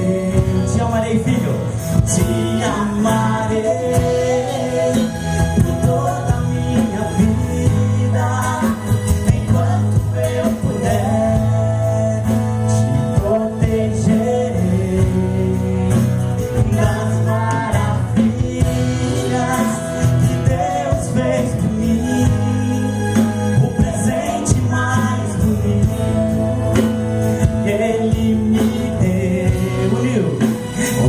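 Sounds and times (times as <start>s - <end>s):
live band playing gospel song: 0.0s - 31.0s.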